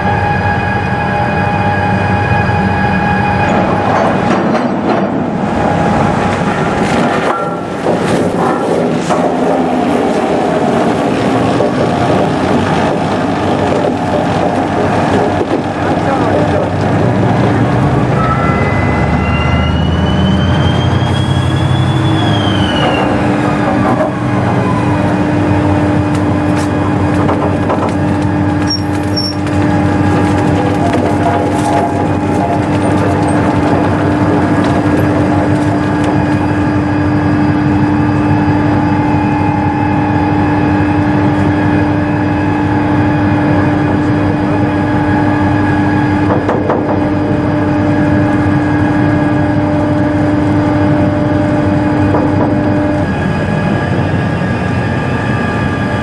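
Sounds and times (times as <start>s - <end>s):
machinery hum and rumble: 0.0s - 56.0s.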